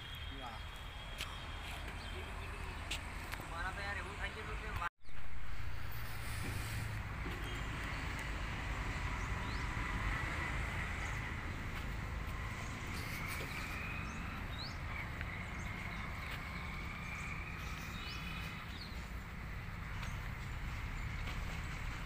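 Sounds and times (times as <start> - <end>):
birds chirping: 0.0 - 5.3, 9.1 - 22.0.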